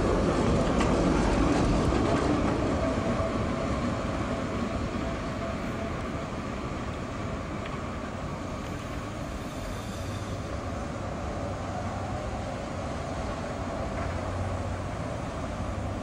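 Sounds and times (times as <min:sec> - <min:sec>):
electric tram rumbling on rails: 0:00.0 - 0:16.0.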